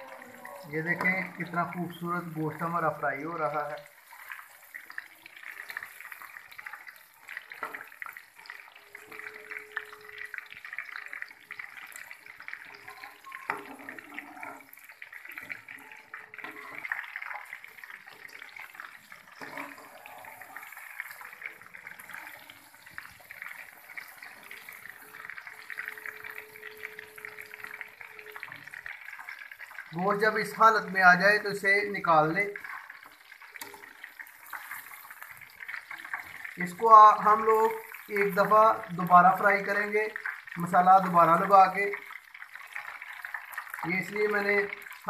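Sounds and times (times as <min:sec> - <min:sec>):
meat deep-frying sizzle: 0:00.0 - 0:45.0.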